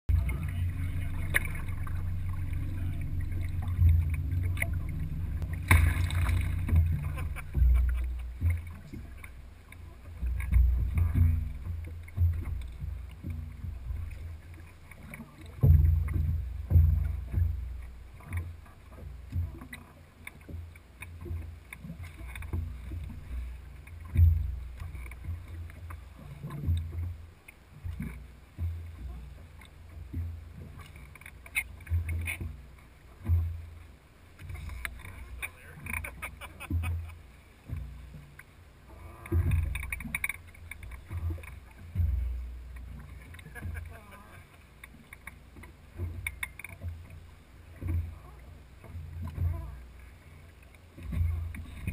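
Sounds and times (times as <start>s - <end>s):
water lapping against boat hull: 0.1s - 51.9s.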